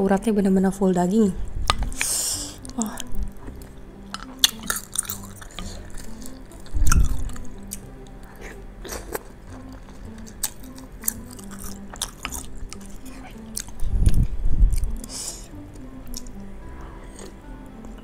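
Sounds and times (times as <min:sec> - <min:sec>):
soft background music: 0:00.0 - 0:18.0
close chewing: 0:01.7 - 0:18.0.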